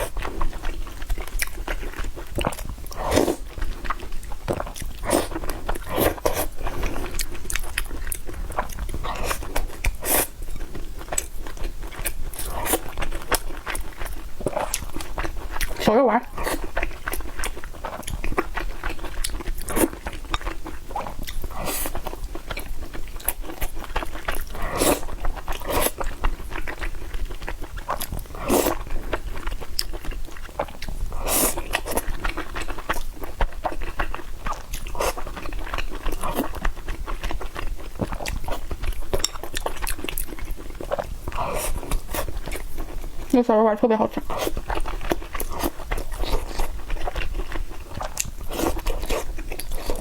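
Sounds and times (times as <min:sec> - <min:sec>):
chewing and biting food: 0:00.0 - 0:43.4, 0:44.0 - 0:50.0.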